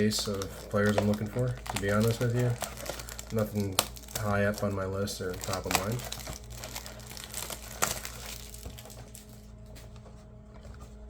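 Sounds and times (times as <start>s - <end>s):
plastic wrapping crinkling: 0.0s - 9.6s
steady low hum: 0.0s - 11.0s.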